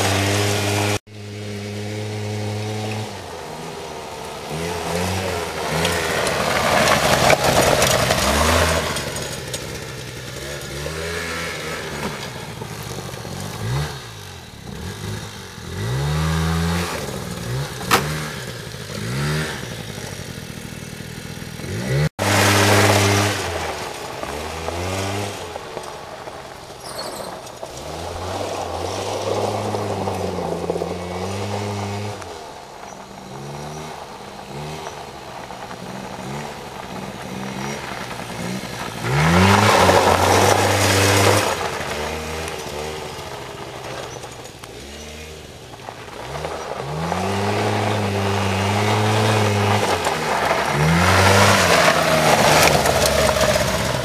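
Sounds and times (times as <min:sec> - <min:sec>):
quad bike engine revving: 0:00.0 - 0:26.0, 0:26.7 - 0:54.0.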